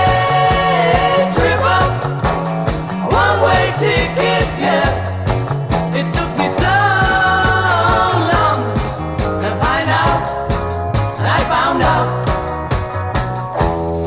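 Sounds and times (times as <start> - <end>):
song with drum beat and bass: 0.0 - 14.0.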